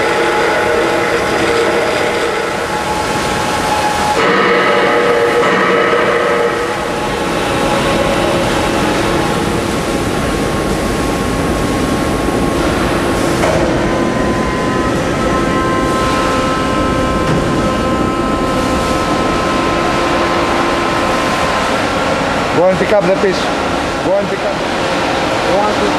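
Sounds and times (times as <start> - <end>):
machine hum with whining tones: 0.0 - 25.9.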